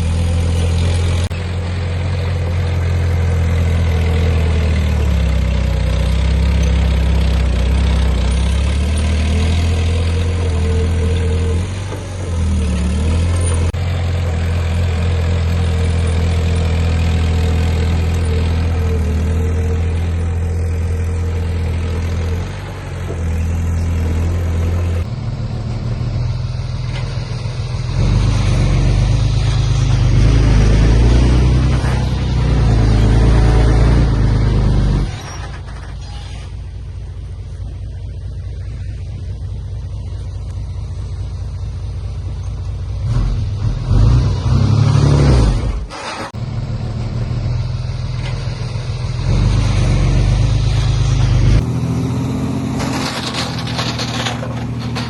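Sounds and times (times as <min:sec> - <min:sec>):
heavy diesel engine running: 0:00.0 - 0:44.2, 0:45.4 - 0:55.0.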